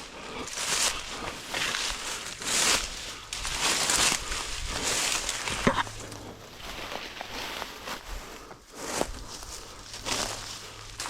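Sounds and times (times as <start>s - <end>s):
footsteps through undergrowth: 0.0s - 11.0s
leaves and twigs rustling: 0.0s - 11.0s.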